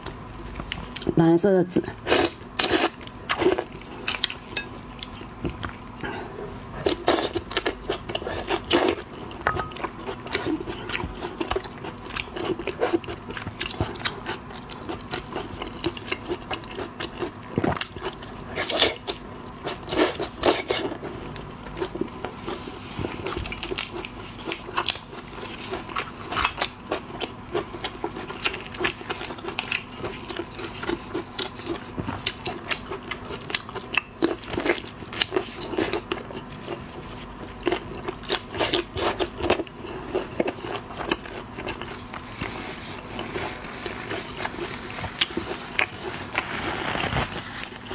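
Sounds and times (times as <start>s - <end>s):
chewing seafood: 0.0s - 1.2s, 1.8s - 47.9s.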